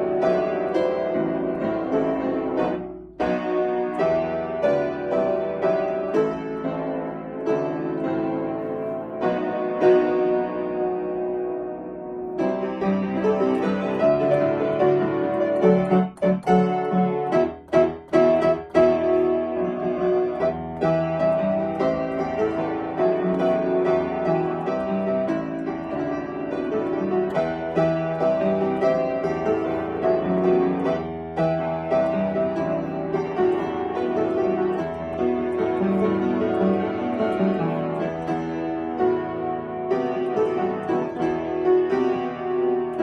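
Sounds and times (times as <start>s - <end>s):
piano playing pop song: 0.0s - 43.0s.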